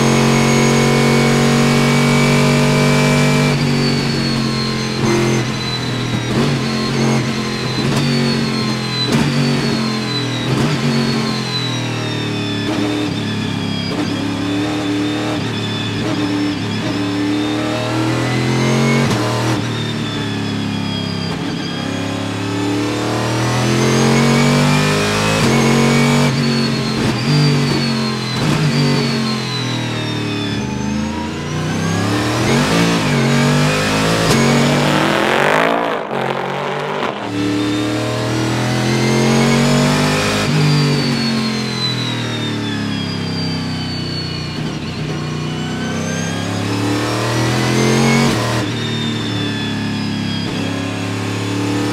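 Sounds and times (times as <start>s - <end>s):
race car engine revving: 0.0s - 19.9s, 21.0s - 51.9s.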